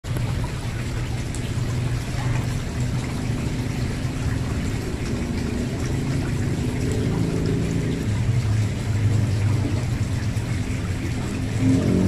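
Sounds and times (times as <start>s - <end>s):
water splashing into pond: 0.0s - 12.0s.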